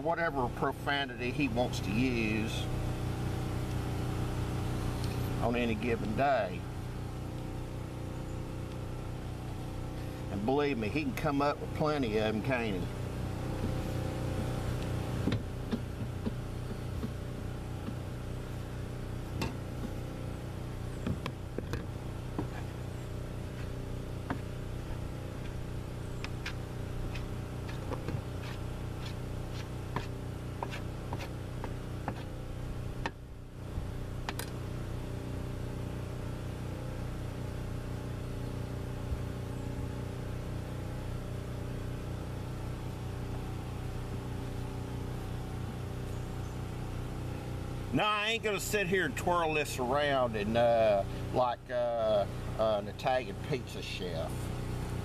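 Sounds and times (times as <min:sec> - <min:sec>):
small engine humming: 0:01.2 - 0:55.0.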